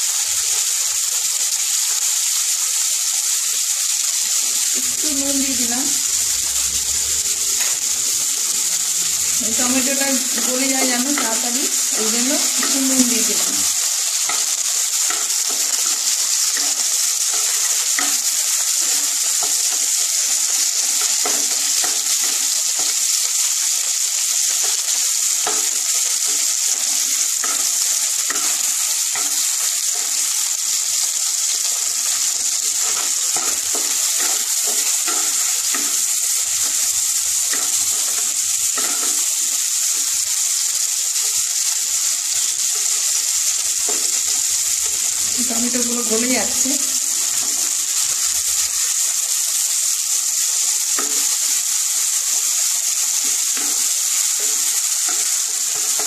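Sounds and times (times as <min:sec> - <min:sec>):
tomatoes sizzling in oil: 0:00.0 - 0:56.0.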